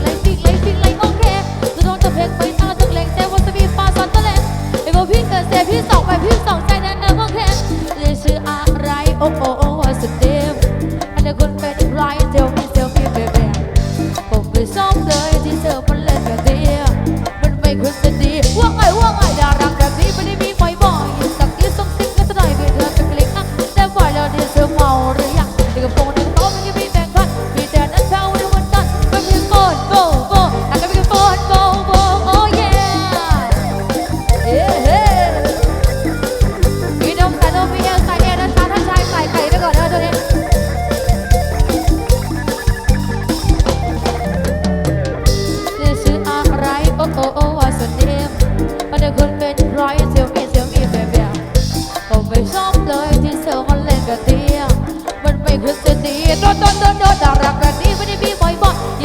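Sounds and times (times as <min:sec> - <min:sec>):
bass line: 0:00.0 - 0:59.0
drum beat: 0:00.0 - 0:59.0
gliding melodic lead: 0:00.0 - 0:59.0.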